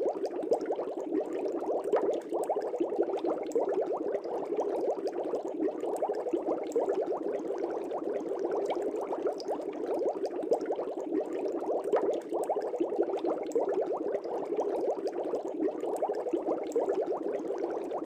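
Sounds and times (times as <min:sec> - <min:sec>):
aquarium air bubbles burbling: 0:00.0 - 0:18.0.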